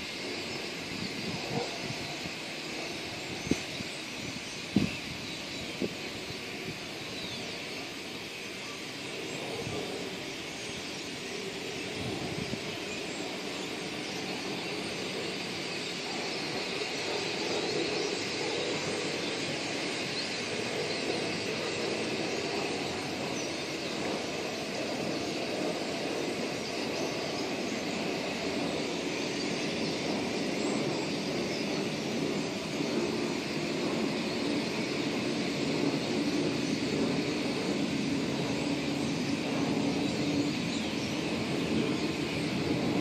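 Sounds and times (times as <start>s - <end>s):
flock of birds chirping: 0.0s - 43.0s.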